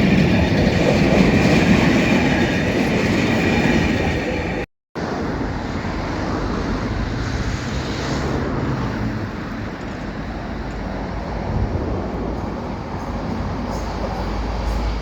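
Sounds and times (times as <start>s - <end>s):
freight train rolling past: 0.0s - 15.0s
wind noise on microphone: 0.0s - 15.0s.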